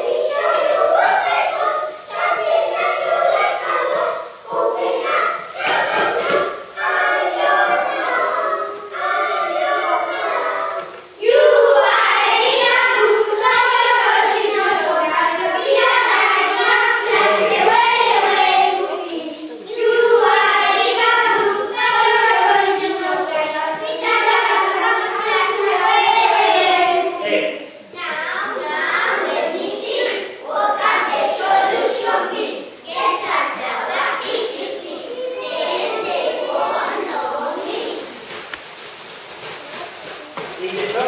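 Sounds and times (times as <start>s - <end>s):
children singing in chorus: 0.0s - 38.4s.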